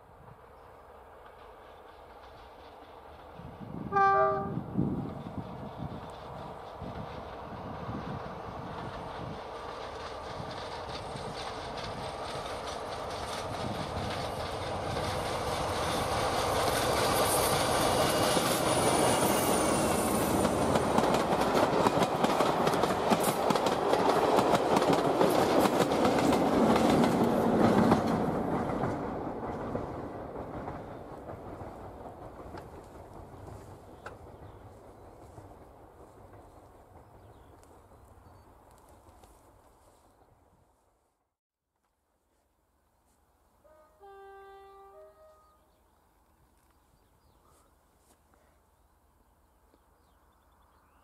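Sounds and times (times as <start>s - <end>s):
passenger train passing: 0.0s - 40.9s, 43.5s - 46.3s.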